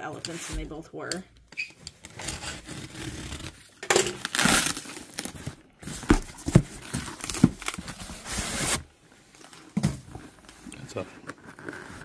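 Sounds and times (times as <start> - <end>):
cardboard flaps crinkling: 2.2 - 12.0.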